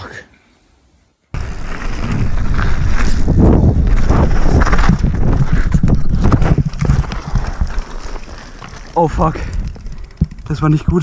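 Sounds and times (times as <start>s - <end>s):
wind buffeting microphone: 1.4s - 8.4s, 9.0s - 11.0s
bike crash: 1.4s - 10.4s
mountain bike rattling: 1.4s - 11.0s.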